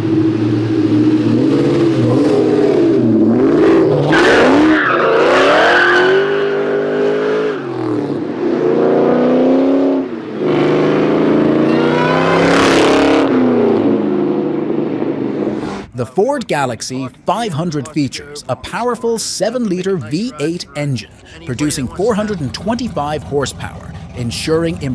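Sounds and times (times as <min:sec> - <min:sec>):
car engine accelerating hard: 0:00.0 - 0:16.0, 0:19.9 - 0:24.9.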